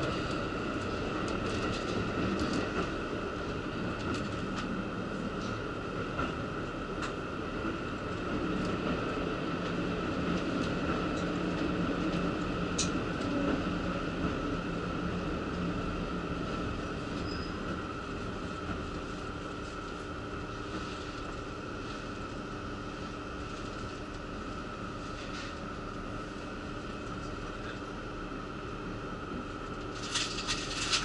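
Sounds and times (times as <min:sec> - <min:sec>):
railcar engine hum: 0:00.0 - 0:31.0.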